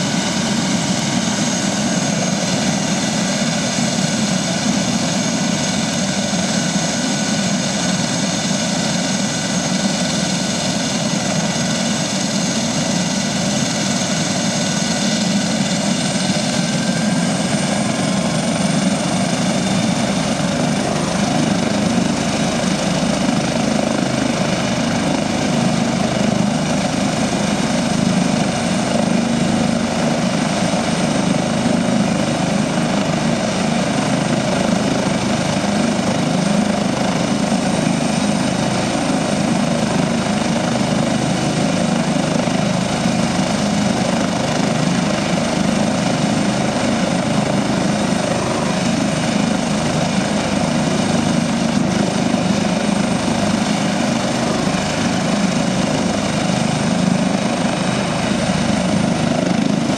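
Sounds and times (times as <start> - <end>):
helicopter rotor and engines: 0.0 - 59.9
high turbine whine: 0.0 - 59.9.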